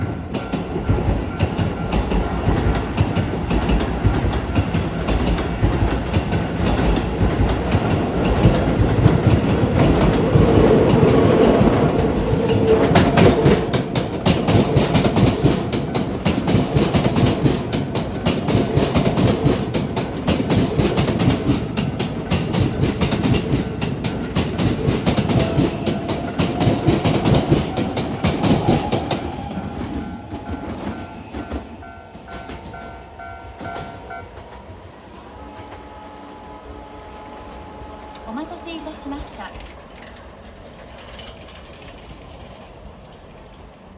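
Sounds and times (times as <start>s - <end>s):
wheel clatter over rail joints: 0.0s - 34.6s, 38.2s - 43.9s
electric train rumble: 0.0s - 43.9s.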